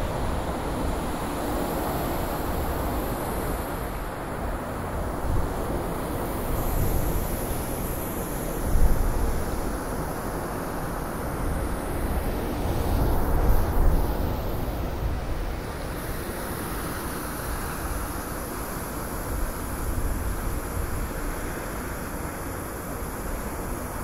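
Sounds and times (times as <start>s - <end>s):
blizzard wind gusting: 0.0s - 24.0s.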